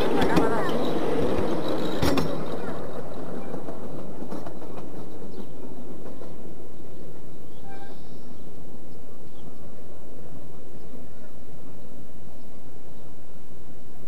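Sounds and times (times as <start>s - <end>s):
wheels clicking over rail joints: 0.0s - 11.8s
train wheels rumbling on rail: 0.0s - 14.0s.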